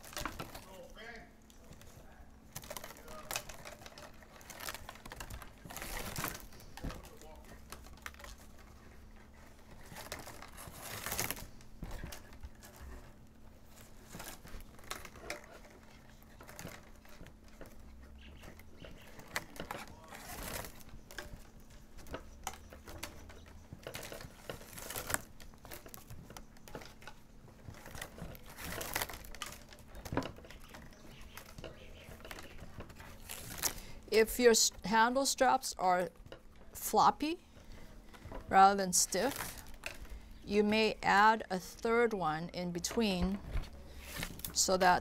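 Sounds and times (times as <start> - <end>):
plastic straps rustling and crinkling: 0.0 - 45.0.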